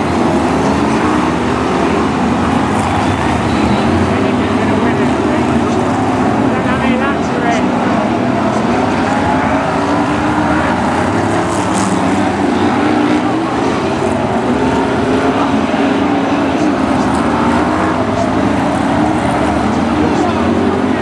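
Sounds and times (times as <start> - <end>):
race car engines on track: 0.0 - 21.0.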